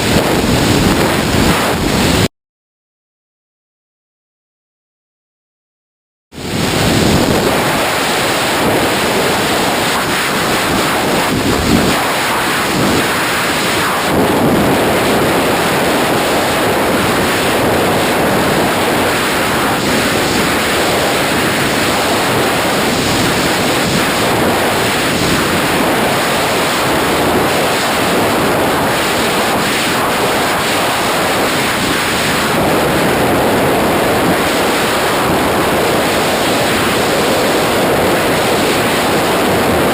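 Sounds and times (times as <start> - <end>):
freefall wind buffeting microphone: 0.0 - 2.3, 6.4 - 39.9.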